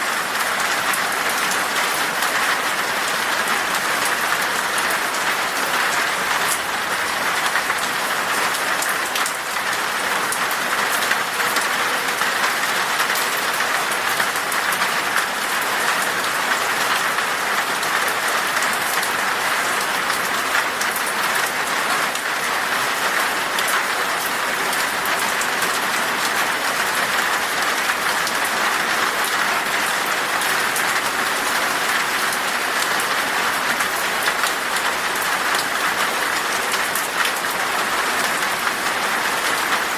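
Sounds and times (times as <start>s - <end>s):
rain falling in a forest: 0.0s - 39.9s.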